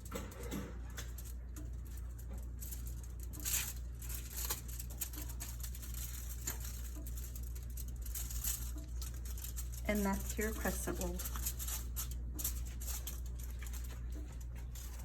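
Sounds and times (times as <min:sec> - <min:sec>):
hands rustling dough on foil: 0:00.0 - 0:15.0
steady low hum: 0:00.0 - 0:15.0.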